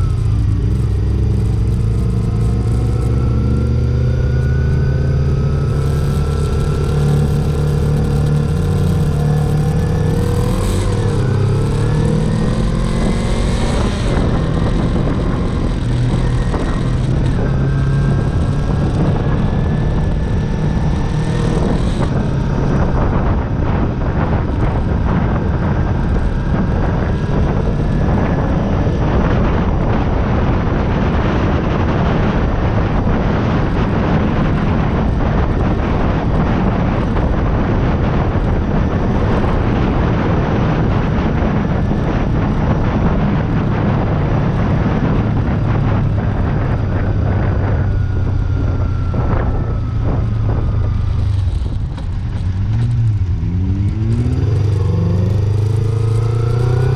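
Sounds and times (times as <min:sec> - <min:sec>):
motorcycle engine accelerating: 0:00.0 - 0:56.9
wind noise on microphone: 0:00.0 - 0:56.9.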